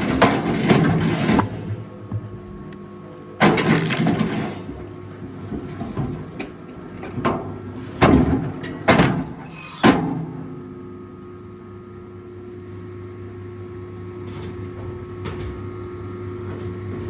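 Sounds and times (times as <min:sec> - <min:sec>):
log splitter machine hum: 0:00.0 - 0:17.0.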